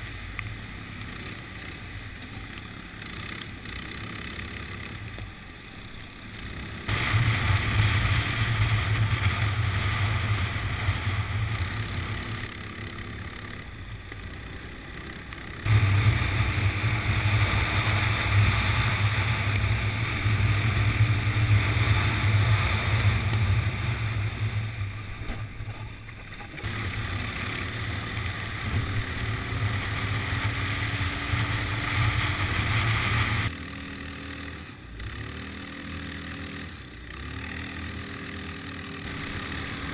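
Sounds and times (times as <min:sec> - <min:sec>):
go-kart engine revving: 0:00.6 - 0:39.9.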